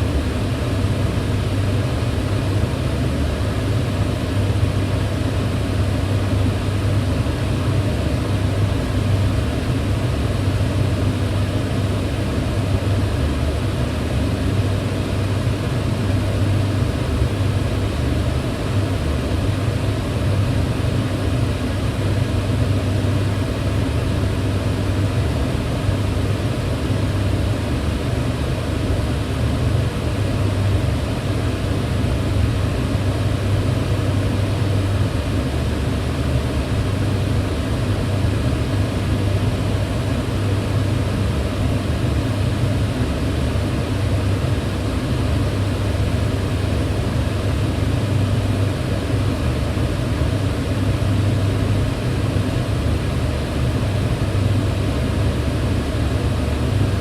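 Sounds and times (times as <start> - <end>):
range hood fan humming: 0.0 - 57.0.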